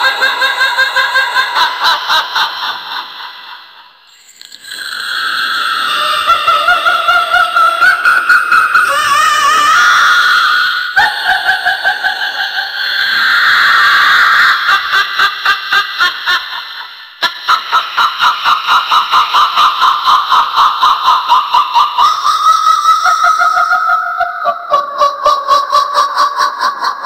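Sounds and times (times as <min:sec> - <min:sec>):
shrill witch cackle: 0:00.0 - 0:03.9, 0:05.7 - 0:27.0.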